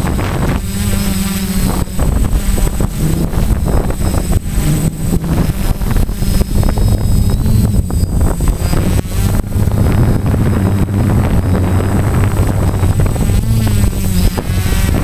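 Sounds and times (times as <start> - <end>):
quadcopter propellers whirring: 0.0 - 15.0
wind rumble on microphone: 0.0 - 15.0.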